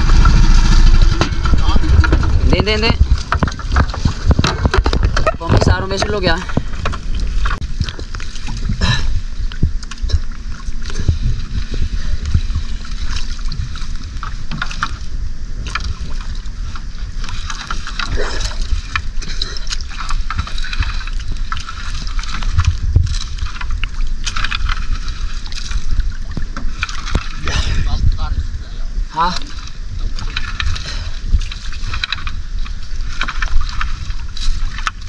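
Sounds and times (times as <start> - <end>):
water sloshing against a boat hull: 0.0 - 35.0
wind on microphone: 0.0 - 35.0
small knocks and splashes: 0.8 - 28.3, 29.3 - 35.0.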